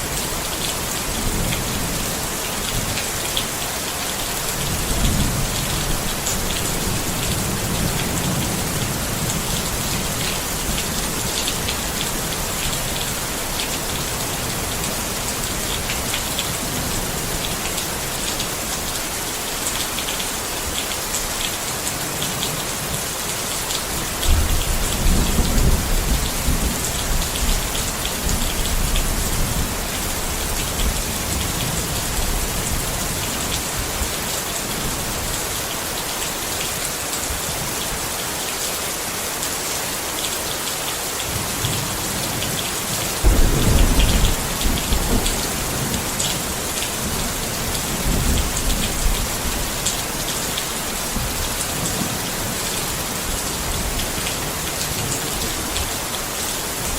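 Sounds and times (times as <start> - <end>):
rain on a tent: 0.0 - 56.9.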